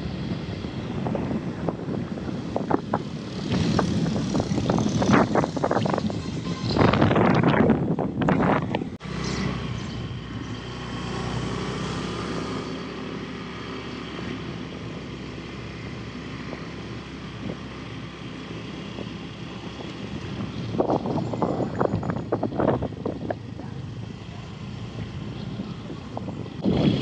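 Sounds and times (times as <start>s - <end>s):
motorbike engine cruising: 0.0s - 27.0s.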